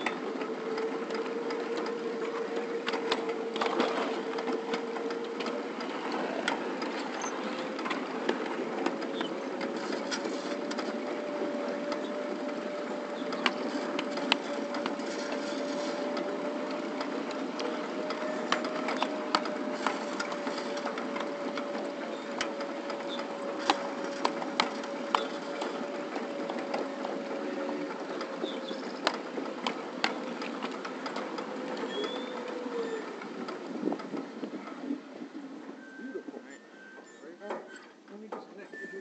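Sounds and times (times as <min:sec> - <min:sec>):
steady whine: 0:00.0 - 0:37.4
miniature train running noise: 0:00.0 - 0:39.0
wheels clicking over rail joints: 0:00.0 - 0:39.0.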